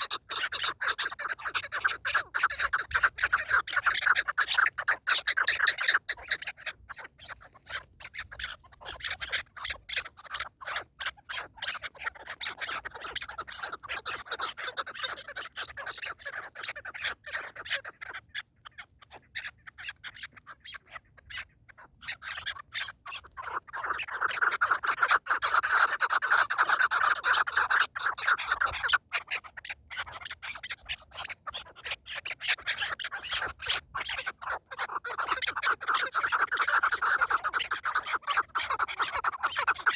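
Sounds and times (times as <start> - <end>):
partridges calling: 0.0 - 39.9.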